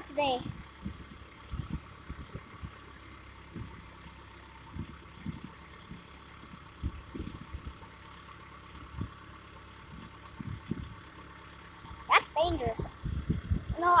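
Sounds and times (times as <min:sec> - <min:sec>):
engine idling: 0:00.2 - 0:14.0.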